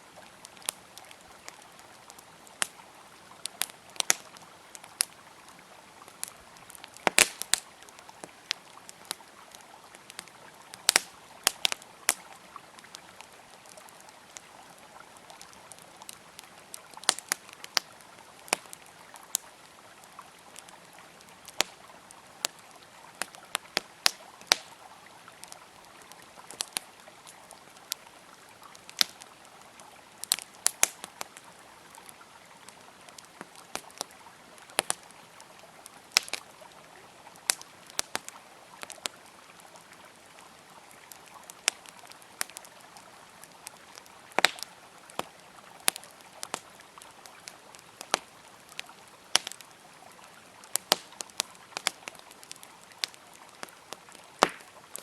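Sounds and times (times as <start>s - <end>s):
river flowing: 0.0s - 55.0s
wood fire crackling and popping: 0.2s - 55.0s.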